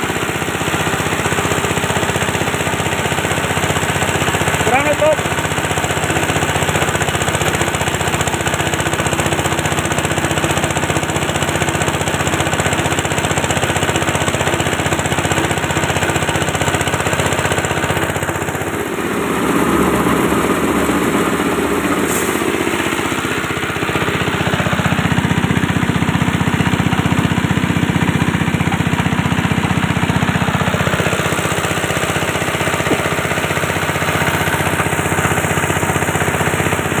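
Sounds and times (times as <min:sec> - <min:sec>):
diesel engine clattering under load: 0:00.0 - 0:37.0.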